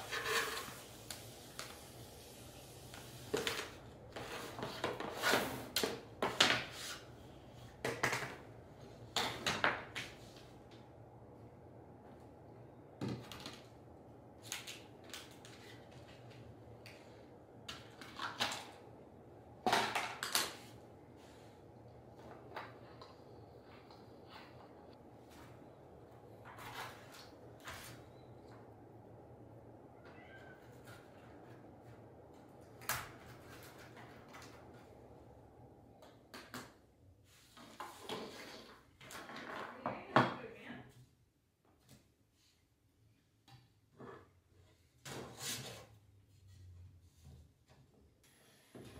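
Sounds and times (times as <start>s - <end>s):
low steady room hum: 0.0s - 48.9s.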